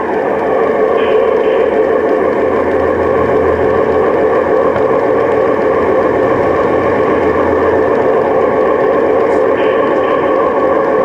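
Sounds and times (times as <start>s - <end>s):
model locomotive whirring on rails: 0.0s - 11.0s.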